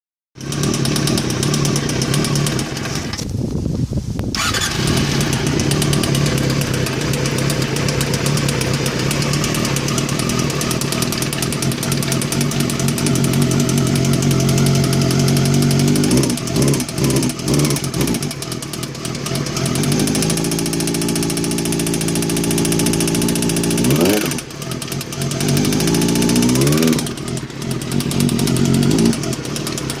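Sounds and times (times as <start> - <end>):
abnormal engine noise: 0.4 - 3.3, 4.3 - 30.0
motorcycle engine revving: 0.4 - 3.4, 4.3 - 30.0.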